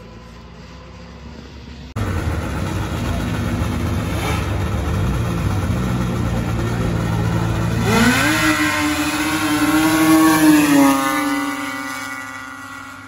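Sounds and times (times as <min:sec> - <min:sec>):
snowmobile engines revving: 0:00.0 - 0:13.0.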